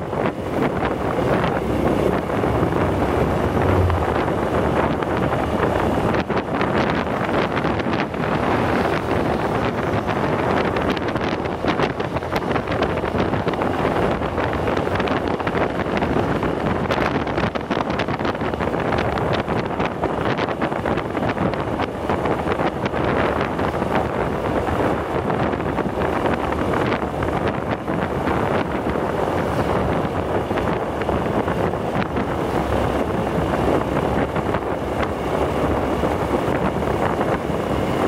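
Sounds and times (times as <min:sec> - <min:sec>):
motorcycle engine: 0:00.0 - 0:38.0
road noise: 0:00.0 - 0:38.0
wind buffeting microphone: 0:00.0 - 0:38.0.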